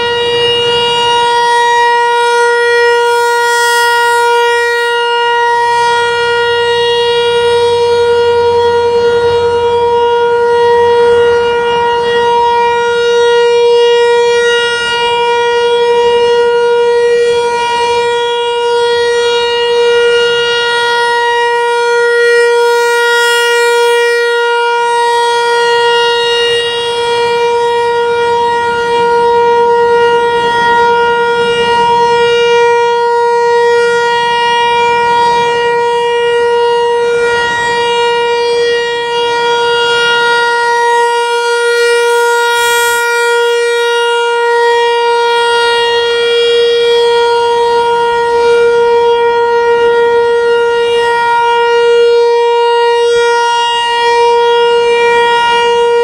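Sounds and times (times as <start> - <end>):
rotating storm siren: 0.0 - 56.0.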